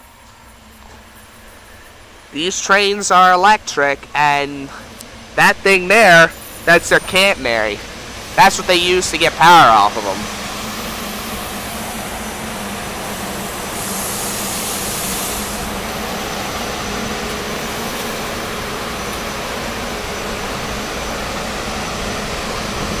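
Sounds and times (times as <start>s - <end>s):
train equipment hum: 0.0s - 23.0s.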